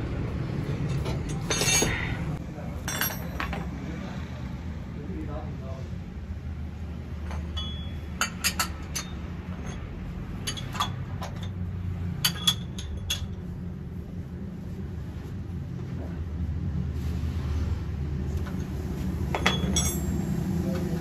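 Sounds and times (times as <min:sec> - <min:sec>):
steady low hum: 0:04.0 - 0:21.0.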